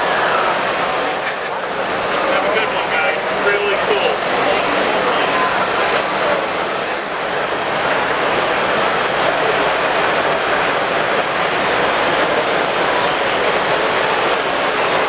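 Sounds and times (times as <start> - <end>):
busy exhibition hall roar: 0.0 - 15.0.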